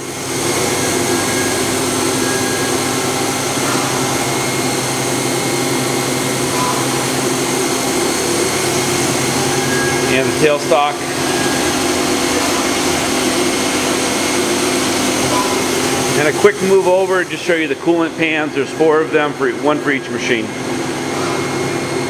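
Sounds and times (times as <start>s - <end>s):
lathe spindle humming: 0.0s - 22.0s.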